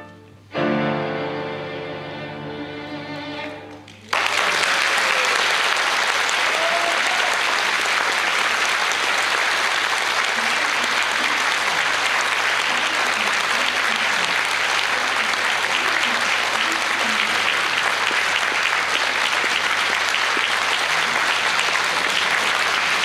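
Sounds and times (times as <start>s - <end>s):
audience applauding: 3.7s - 23.0s.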